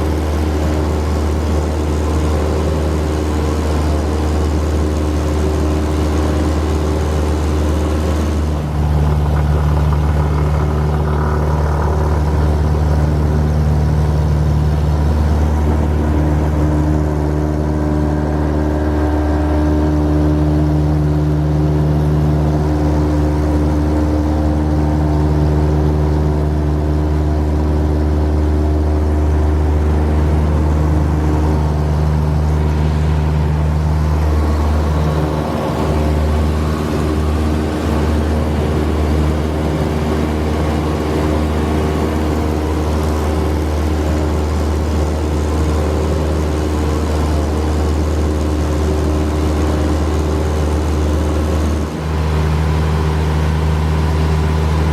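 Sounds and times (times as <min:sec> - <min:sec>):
aircraft engine droning: 0:00.0 - 0:54.9.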